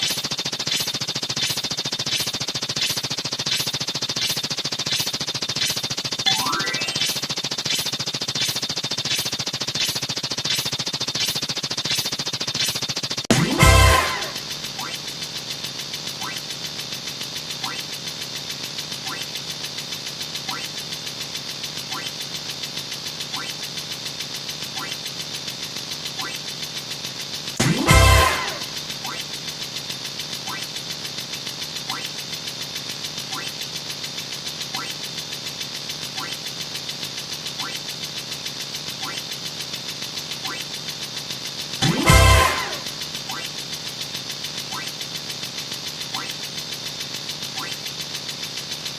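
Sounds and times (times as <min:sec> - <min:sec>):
rapid mechanical chugging: 0:00.0 - 0:48.9.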